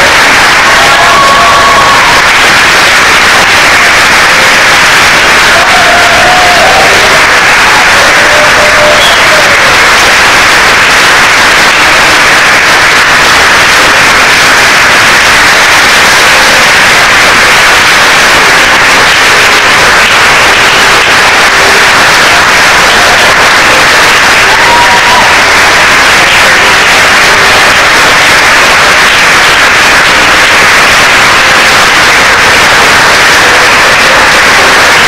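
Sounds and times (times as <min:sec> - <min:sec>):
audience applauding: 0:00.0 - 0:35.0.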